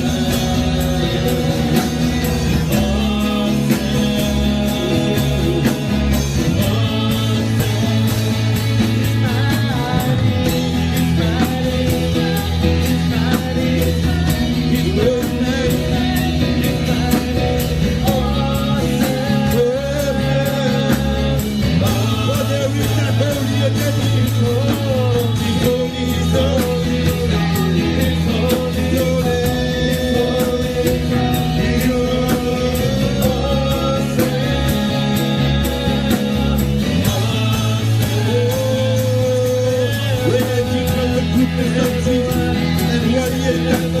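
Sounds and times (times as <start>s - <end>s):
electric guitar: 0.0s - 44.0s
gospel band playing: 0.0s - 44.0s
person singing: 0.0s - 44.0s.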